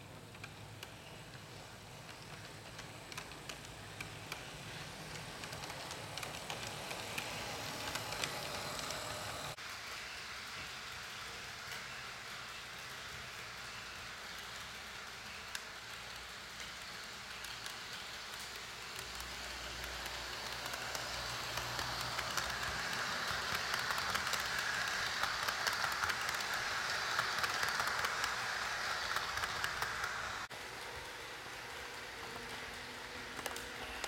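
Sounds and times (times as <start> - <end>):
model train wheels rattling: 0.2 - 34.0
model train motor whir: 0.4 - 34.0.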